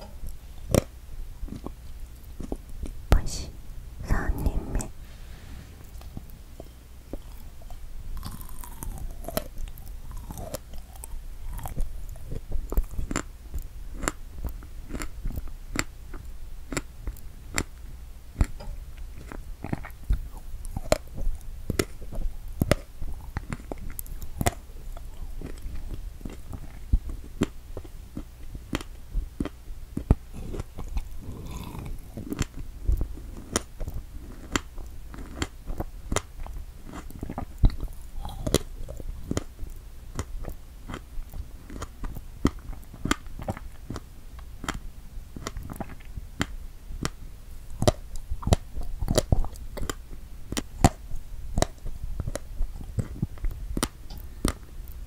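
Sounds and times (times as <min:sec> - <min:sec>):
crunchy wet chewing: 0:00.1 - 0:03.1, 0:05.7 - 0:55.0.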